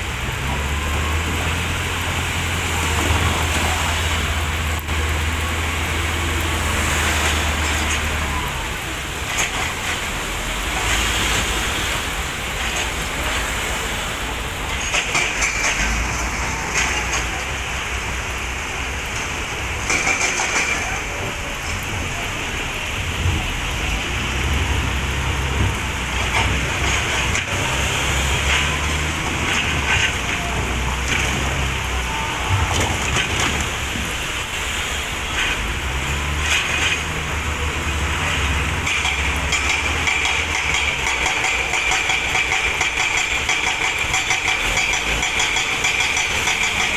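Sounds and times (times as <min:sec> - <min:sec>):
excavator diesel engine running: 0:00.0 - 0:34.7, 0:35.3 - 0:46.9.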